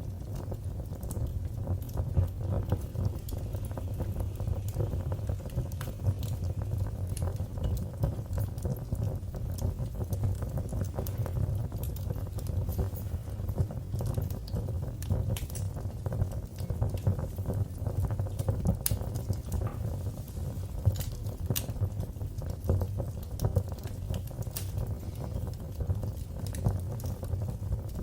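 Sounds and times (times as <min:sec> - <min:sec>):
low rumble of flame: 0:00.0 - 0:28.0
wood fire crackling and popping: 0:00.0 - 0:28.0.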